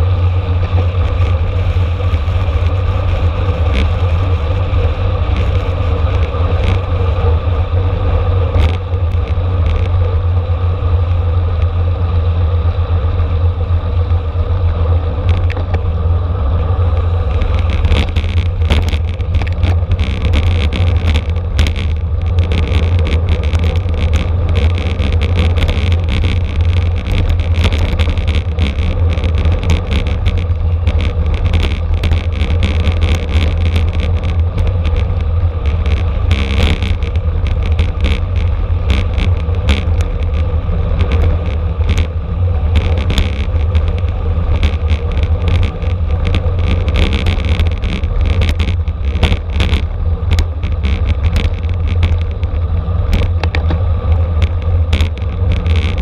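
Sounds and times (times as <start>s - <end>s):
bike rattles and clicks: 0.0s - 56.0s
road noise: 0.0s - 56.0s
wind rumble on microphone: 0.0s - 56.0s.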